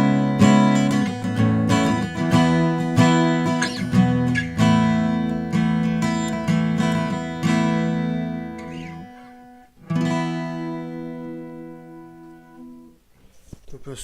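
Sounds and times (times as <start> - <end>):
acoustic guitar strummed: 0.0 - 13.1.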